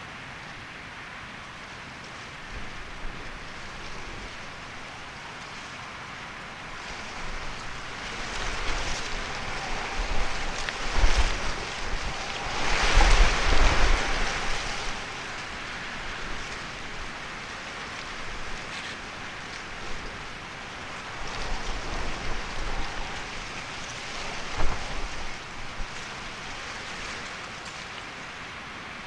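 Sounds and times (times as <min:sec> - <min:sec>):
wind buffeting microphone: 0:02.3 - 0:05.6, 0:06.3 - 0:27.9.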